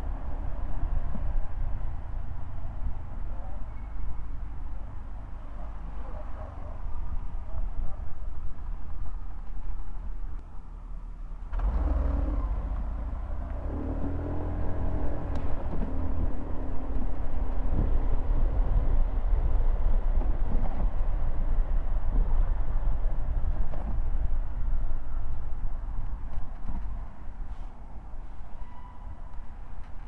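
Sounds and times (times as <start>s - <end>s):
vehicle engines running close by: 0.0s - 28.4s
engine hum: 0.0s - 28.5s
low traffic rumble: 0.0s - 30.0s.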